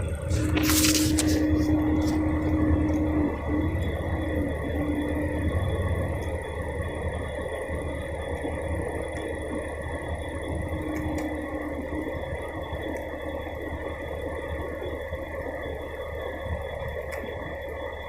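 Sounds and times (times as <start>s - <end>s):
diesel engine droning: 0.0s - 18.0s
faint steady whine: 0.0s - 18.0s.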